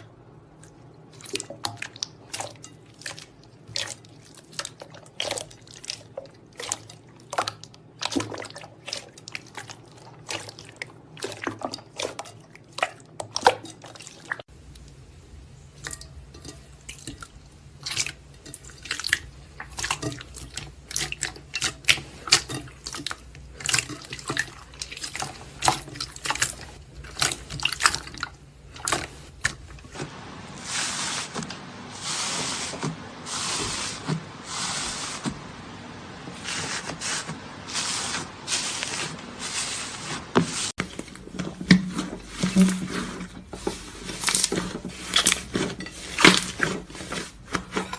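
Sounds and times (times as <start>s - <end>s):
slime squelching: 0.0s - 15.0s, 15.7s - 35.5s, 36.2s - 47.9s.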